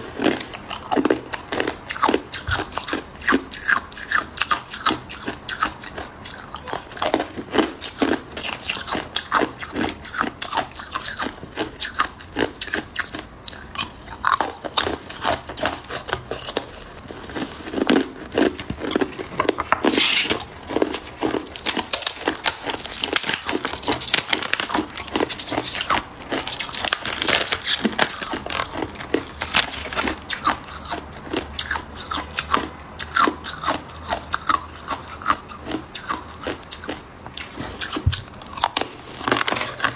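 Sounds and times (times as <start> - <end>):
ice cubes crunching being chewed: 0.0 - 39.9.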